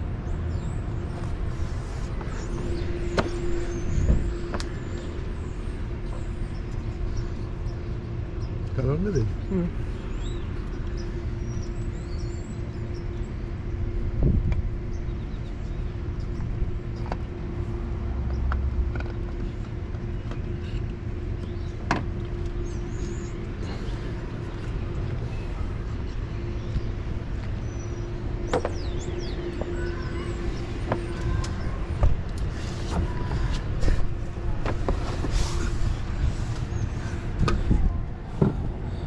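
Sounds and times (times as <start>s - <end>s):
faint hum: 0.0s - 39.0s
low vehicle-like rumble: 0.0s - 39.0s.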